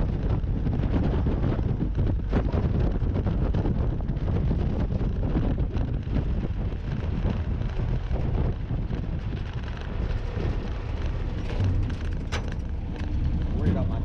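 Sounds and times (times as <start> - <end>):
jeep engine running: 0.0 - 14.0
road noise rumble: 0.0 - 14.0
wind buffeting microphone: 0.0 - 14.0.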